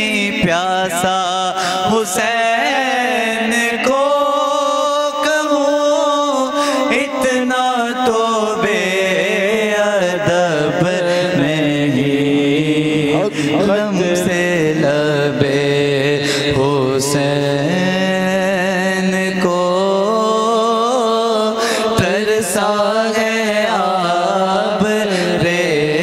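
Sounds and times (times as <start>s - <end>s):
man singing devotional song: 0.0s - 26.0s.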